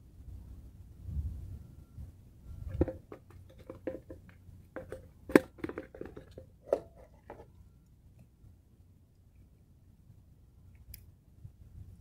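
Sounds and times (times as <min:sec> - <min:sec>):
faint low rumble: 0:00.0 - 0:05.6, 0:06.4 - 0:12.0.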